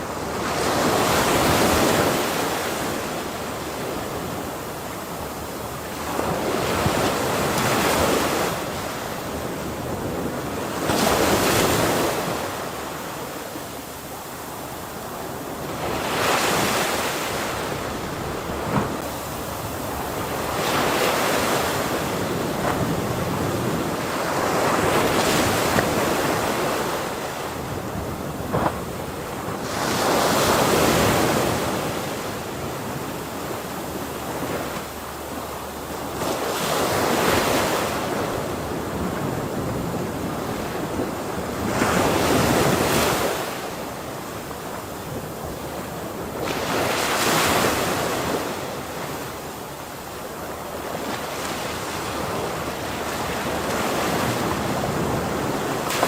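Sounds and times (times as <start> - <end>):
ocean waves breaking: 0.0 - 56.0
wind noise on microphone: 0.0 - 56.0.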